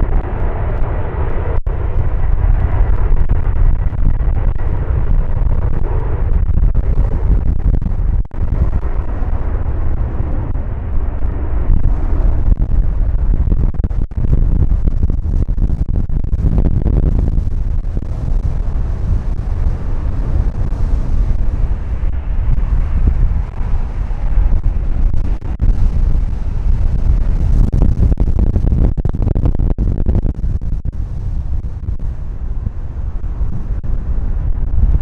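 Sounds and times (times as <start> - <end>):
jet engines rumbling: 0.0 - 35.0
wind buffeting microphone: 0.0 - 35.0.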